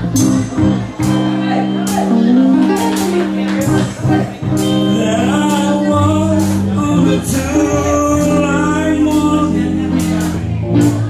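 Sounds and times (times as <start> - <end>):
drum kit: 0.0 - 11.0
electric guitar: 0.0 - 11.0
person singing: 1.1 - 11.0.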